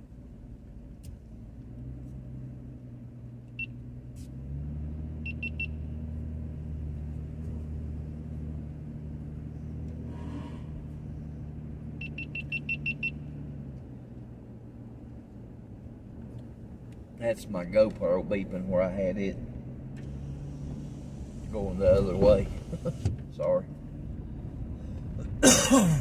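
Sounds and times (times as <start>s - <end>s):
car engine hum from inside: 0.0s - 26.0s.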